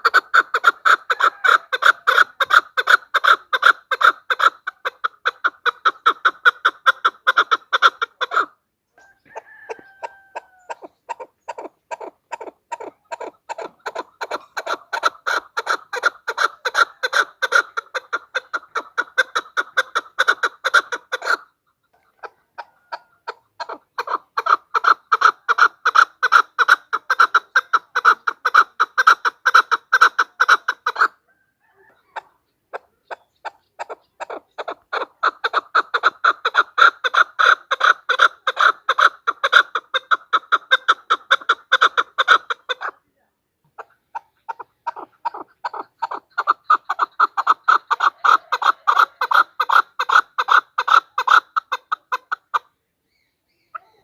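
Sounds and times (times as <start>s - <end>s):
partridge rapid clucking: 0.0s - 8.6s, 9.3s - 31.2s, 32.0s - 43.0s, 43.6s - 52.7s.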